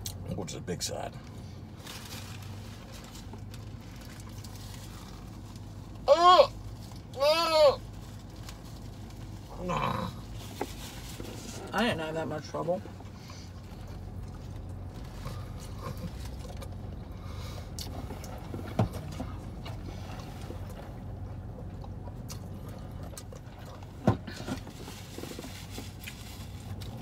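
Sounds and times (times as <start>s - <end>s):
car cabin hum: 0.0s - 27.0s.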